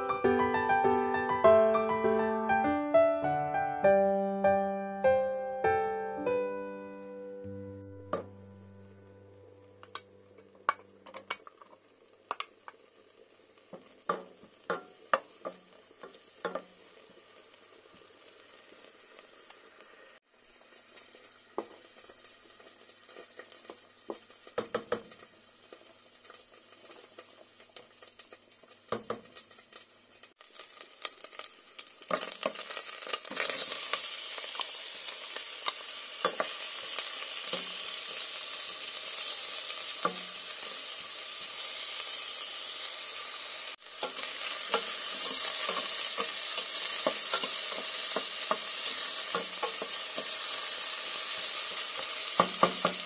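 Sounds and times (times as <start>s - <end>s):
onion sizzling in hot oil: 7.4s - 53.0s.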